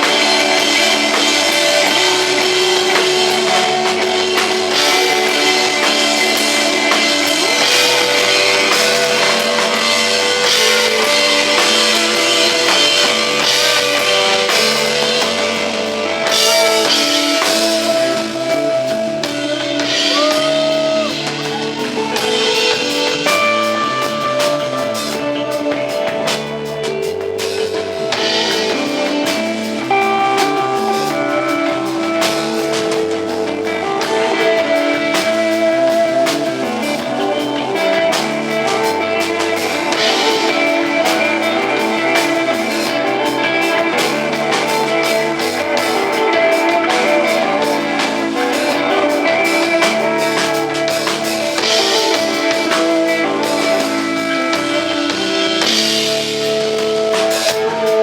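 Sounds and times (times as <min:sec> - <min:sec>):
cymbal washes: 0:00.0 - 0:58.0
drum kit: 0:00.0 - 0:58.0
sustained electric guitar: 0:00.0 - 0:58.0.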